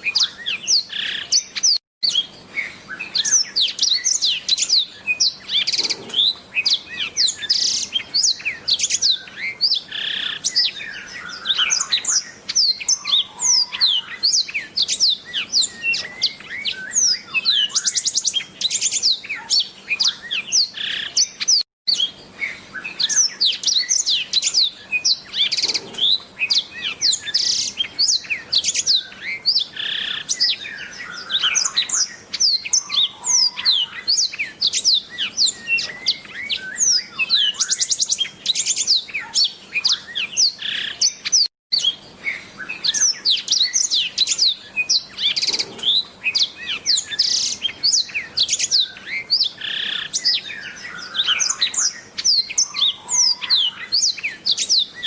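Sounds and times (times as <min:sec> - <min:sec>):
bird singing chirps and whistles: 0:00.0 - 0:55.0.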